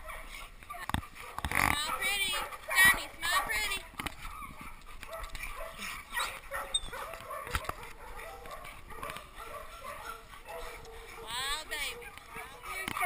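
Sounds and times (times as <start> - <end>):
dogs barking and yipping: 0.0 - 13.0
dogs whimpering: 0.0 - 13.0.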